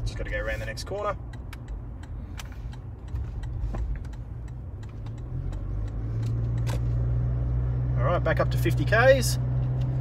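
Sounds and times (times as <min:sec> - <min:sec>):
car engine and road drone: 0:00.0 - 0:10.0.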